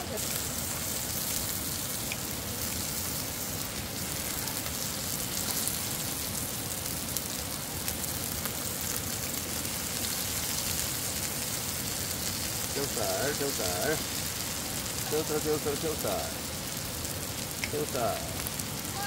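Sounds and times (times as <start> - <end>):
rain hissing: 0.0 - 19.0
steaks sizzling on a griddle: 0.0 - 19.0.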